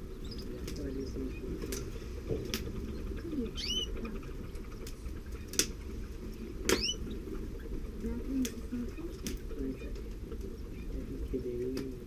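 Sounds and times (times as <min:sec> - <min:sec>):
canaries chirping: 0:00.0 - 0:11.9.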